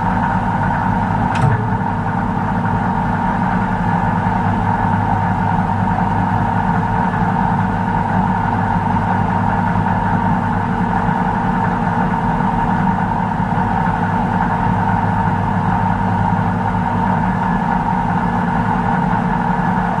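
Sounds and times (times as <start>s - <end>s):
microwave oven hum and whir: 0.0s - 20.0s.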